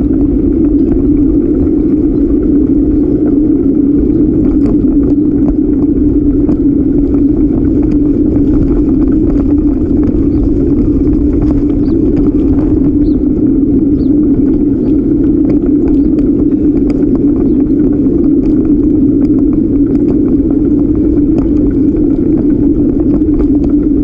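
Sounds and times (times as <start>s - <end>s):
wind and tyre rumble: 0.0s - 24.0s.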